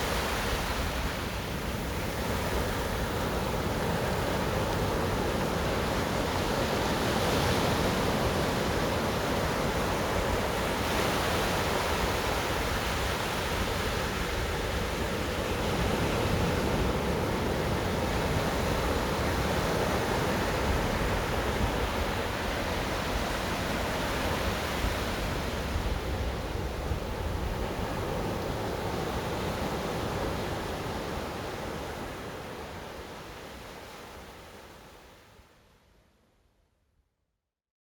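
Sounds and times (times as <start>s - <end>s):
ocean surf washing onto beach: 0.0s - 35.1s.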